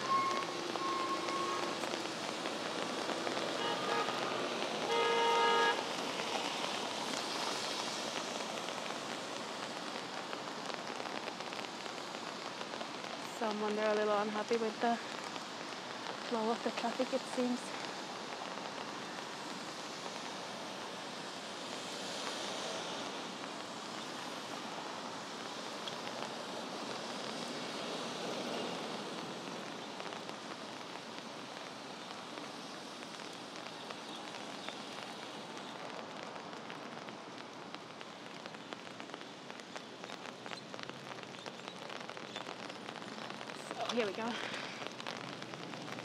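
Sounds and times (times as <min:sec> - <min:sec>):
rain pattering on umbrella: 0:00.0 - 0:46.0
traffic hiss on wet road: 0:00.0 - 0:46.0.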